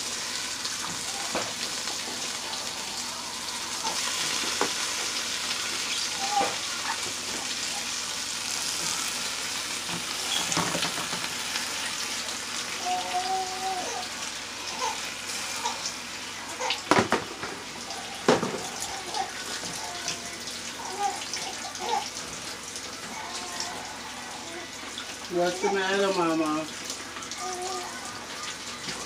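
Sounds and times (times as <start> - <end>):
cabbage sizzling in butter: 0.0 - 29.0.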